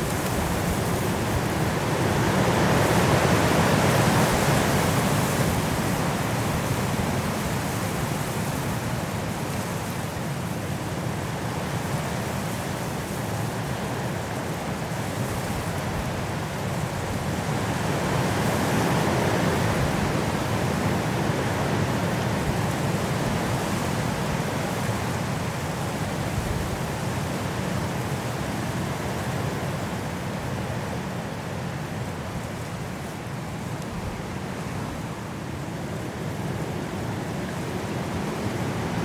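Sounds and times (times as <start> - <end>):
strong wind through trees: 0.0 - 39.0.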